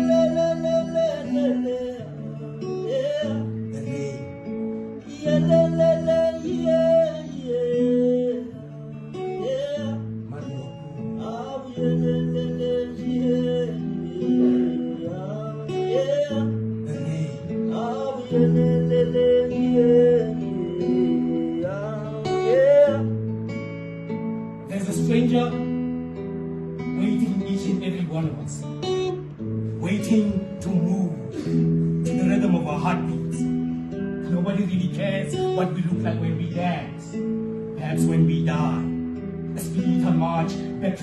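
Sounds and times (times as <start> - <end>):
acoustic guitar chords: 0.0 - 41.0.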